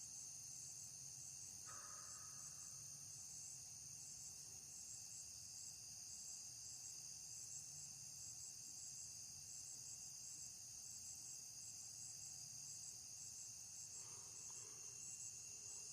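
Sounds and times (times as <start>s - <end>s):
high-pitched insect chorus: 0.0s - 15.9s.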